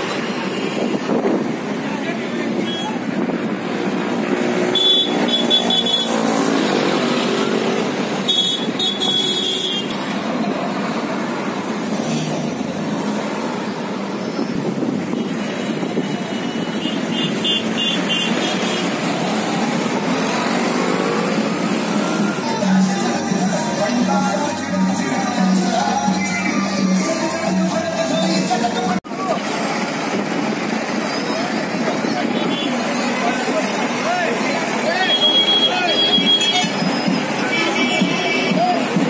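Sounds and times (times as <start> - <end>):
highway traffic rushing: 0.0 - 39.0.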